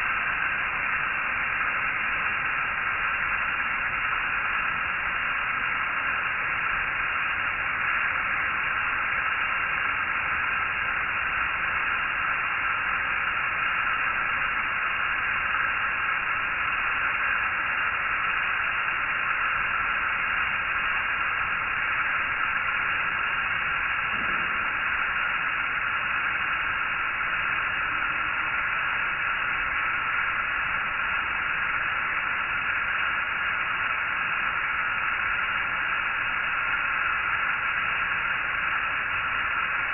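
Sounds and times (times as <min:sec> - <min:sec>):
recording noise hiss: 0:00.0 - 0:39.9.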